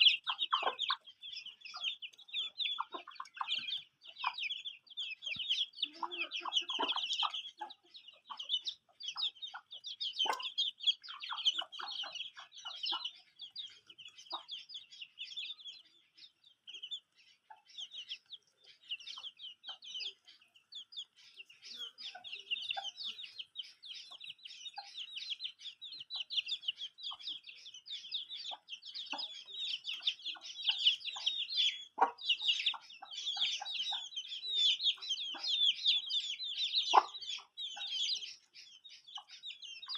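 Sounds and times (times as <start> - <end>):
hen clucking: 0.0 - 38.4
chicks peeping: 0.0 - 39.9.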